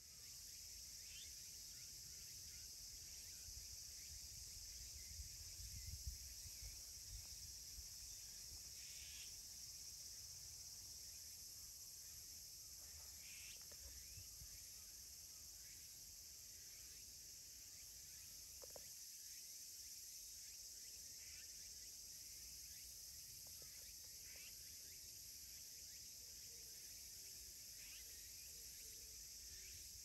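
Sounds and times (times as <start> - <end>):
insect chorus drone: 0.0 - 30.0.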